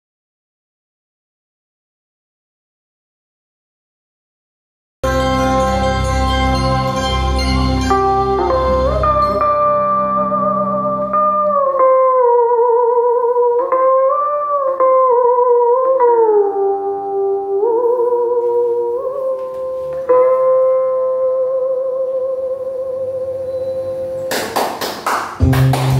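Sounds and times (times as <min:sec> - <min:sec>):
monochords playing bending notes: 0:05.0 - 0:25.9.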